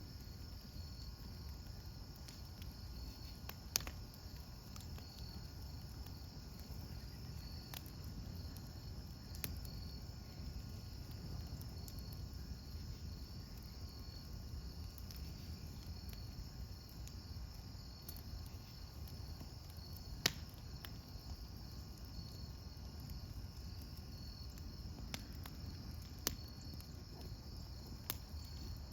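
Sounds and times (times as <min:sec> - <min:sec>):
campfire rumble and pops: 0:00.0 - 0:28.9
crickets chirping: 0:00.0 - 0:28.9.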